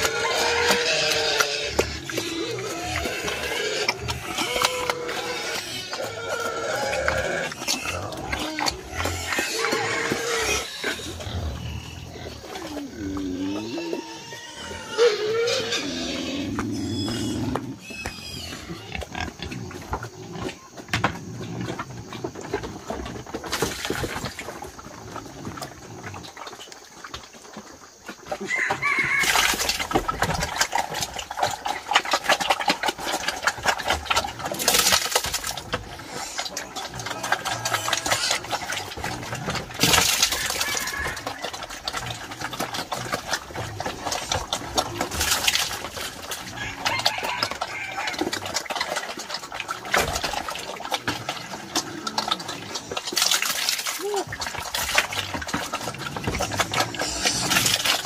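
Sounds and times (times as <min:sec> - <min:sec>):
wild boars grunting: 0:00.0 - 0:23.5, 0:29.8 - 0:58.0.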